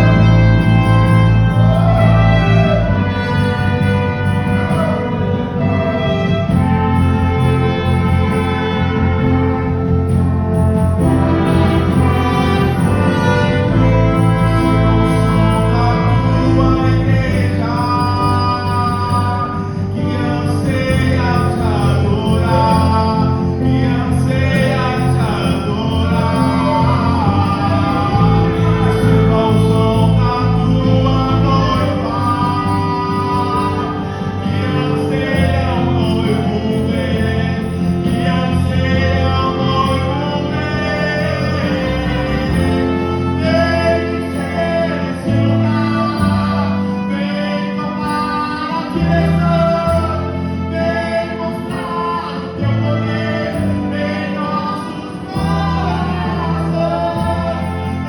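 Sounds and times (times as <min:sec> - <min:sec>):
gospel singer with backing: 0:00.0 - 0:58.0.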